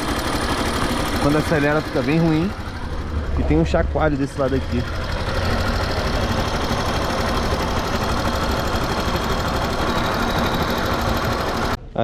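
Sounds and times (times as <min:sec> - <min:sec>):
engine chain rattle: 0:00.0 - 0:11.7
motorcycle engine running: 0:00.0 - 0:11.8.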